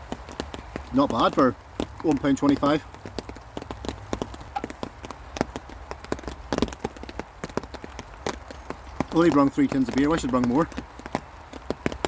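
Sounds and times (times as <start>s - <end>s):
raindrops tapping on a tarp: 0.0s - 12.0s.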